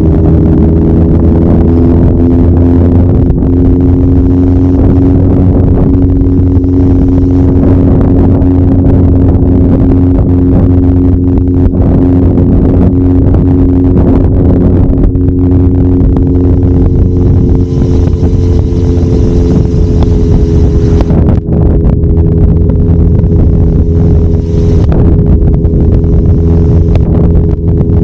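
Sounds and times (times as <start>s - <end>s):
motorcycle engine running: 0.0s - 28.0s
wind rushing over microphone: 0.0s - 28.0s.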